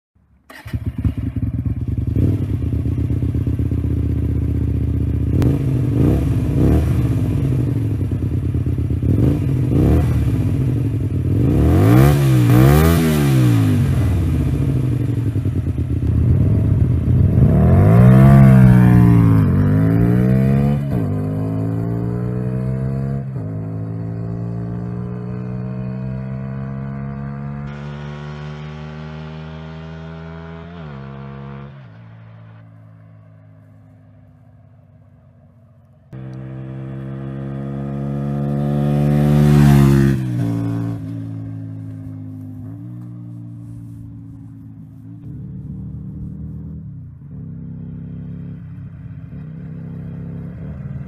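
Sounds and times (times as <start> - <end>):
motorcycle engine idling and revving: 0.3 - 51.0.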